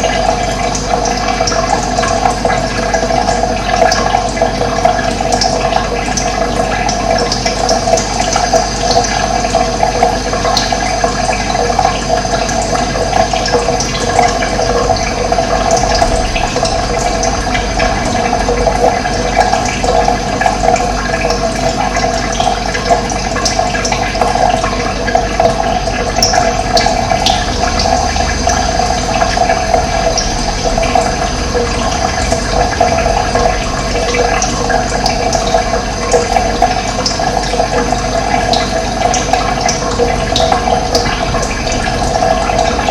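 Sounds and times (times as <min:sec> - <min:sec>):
running water: 0:00.0 - 0:42.9.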